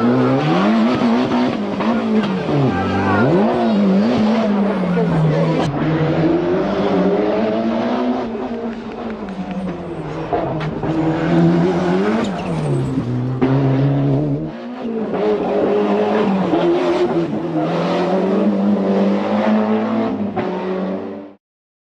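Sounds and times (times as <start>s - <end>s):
rally car engine accelerating hard: 0.0s - 21.4s.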